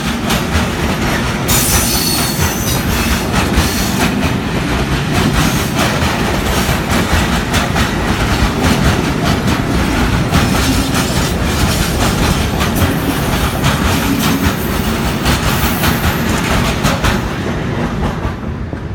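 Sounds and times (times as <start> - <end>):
freight train wheels clattering: 0.0 - 18.9.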